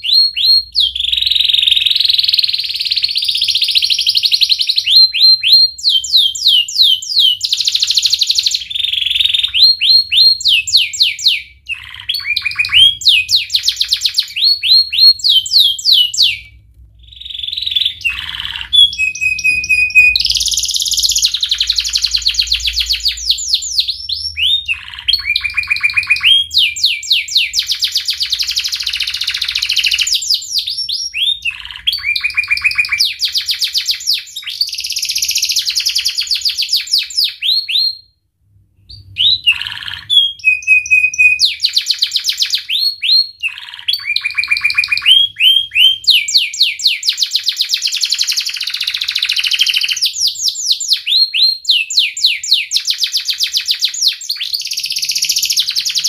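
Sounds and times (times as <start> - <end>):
canary singing trills: 0.0 - 38.1, 38.9 - 56.0.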